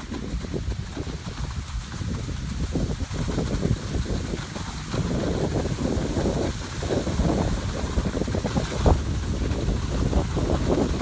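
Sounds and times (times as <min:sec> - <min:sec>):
skis sliding over snow: 0:00.0 - 0:11.0
wind buffeting microphone: 0:00.0 - 0:11.0.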